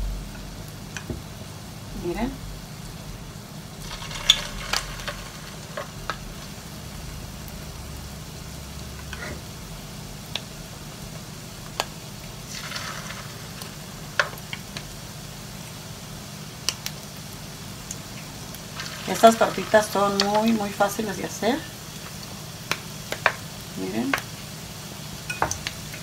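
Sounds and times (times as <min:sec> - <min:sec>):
oil sizzling in a frying pan: 0:00.0 - 0:26.0.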